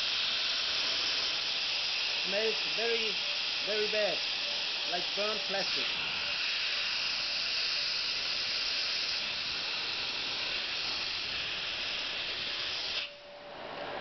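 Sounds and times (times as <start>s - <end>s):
air compressor hiss: 0.0s - 14.0s.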